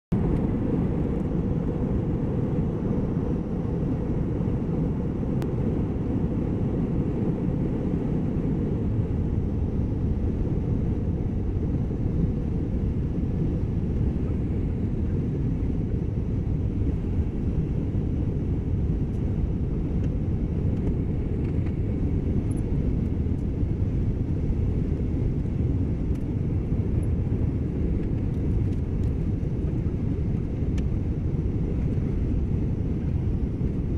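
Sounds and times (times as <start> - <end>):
airplane cabin rumble: 0.1 - 33.9.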